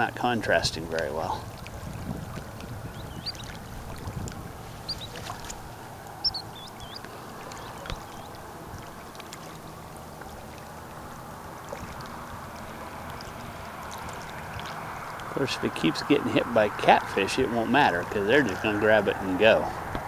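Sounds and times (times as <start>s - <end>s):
wind on microphone: 0.0s - 9.6s, 10.2s - 20.0s
birds chirping: 0.0s - 20.0s
small waves lapping: 0.0s - 20.0s.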